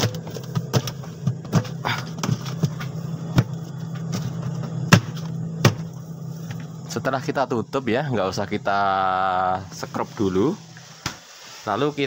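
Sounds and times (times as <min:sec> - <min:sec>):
fridge humming: 0:00.0 - 0:11.3.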